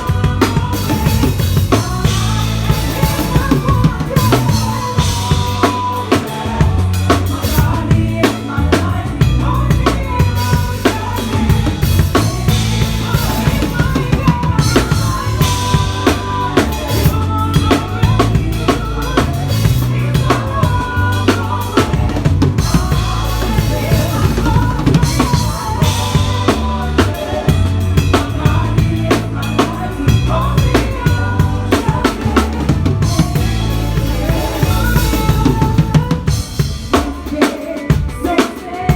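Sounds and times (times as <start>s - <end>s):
drum kit kick and snare groove: 0.0s - 38.9s
live band playing: 0.0s - 38.9s.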